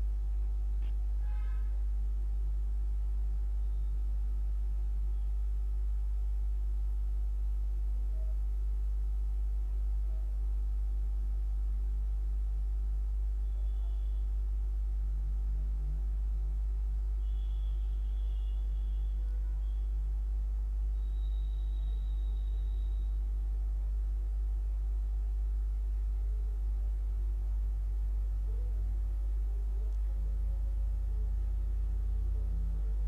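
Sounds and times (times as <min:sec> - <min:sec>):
faint high steady tones: 0:00.0 - 0:33.0
low electrical hum: 0:00.0 - 0:33.0.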